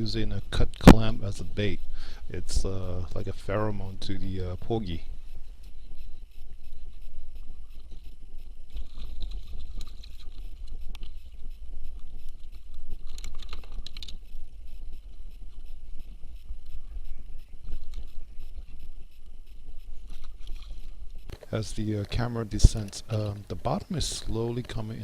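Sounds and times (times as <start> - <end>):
faint crackles and clicks: 0.0 - 25.0
water rumbling against camera: 0.0 - 25.0.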